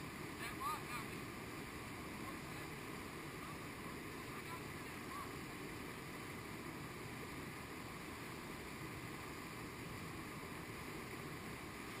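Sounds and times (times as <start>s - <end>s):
whitewater rapid rushing: 0.0s - 12.0s.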